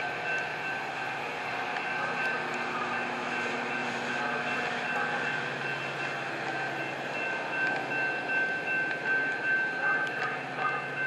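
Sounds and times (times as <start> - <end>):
high-pitched whine: 0.0 - 11.0
train rolling rumble: 0.0 - 11.0.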